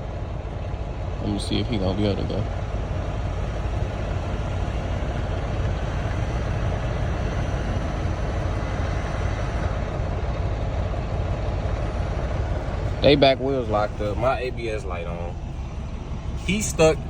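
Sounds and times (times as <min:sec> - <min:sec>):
diesel truck engine rumble: 0:00.0 - 0:17.0.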